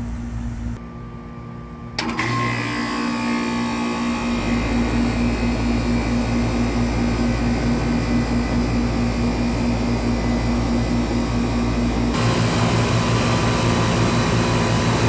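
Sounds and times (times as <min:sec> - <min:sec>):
condenser fan rushing: 0:00.0 - 0:15.0
compressor humming: 0:00.7 - 0:15.0.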